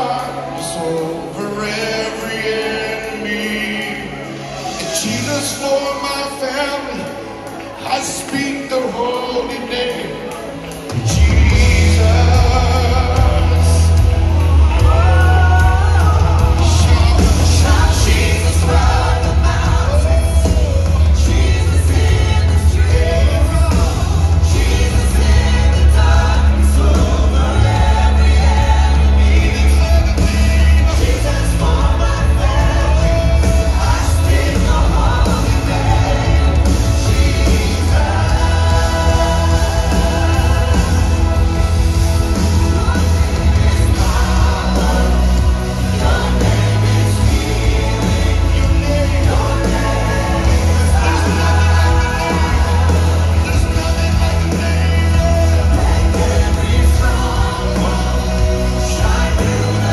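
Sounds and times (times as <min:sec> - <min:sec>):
drums: 0:00.0 - 0:59.9
full band playing: 0:00.0 - 0:59.9
guitar: 0:00.0 - 0:59.9
keyboard: 0:00.0 - 0:59.9
vocal team singing: 0:00.0 - 0:59.9
heavy bass line: 0:11.0 - 0:59.9.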